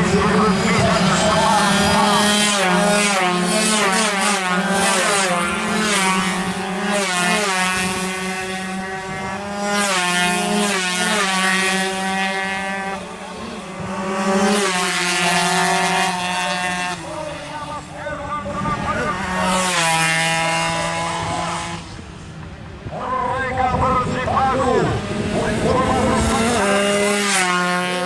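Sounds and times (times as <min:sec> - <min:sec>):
racing motorcycles at full throttle: 0:00.0 - 0:28.0.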